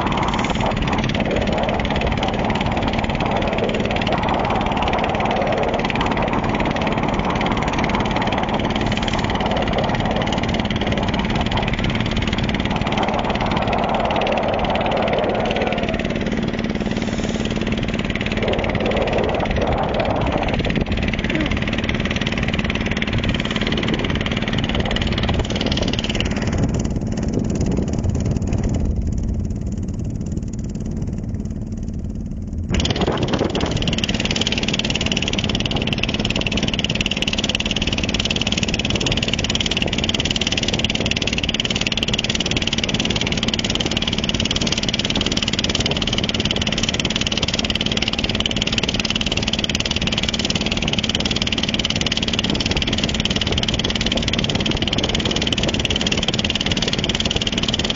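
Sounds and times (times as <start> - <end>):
motorboat engine running: 0.0 - 57.9.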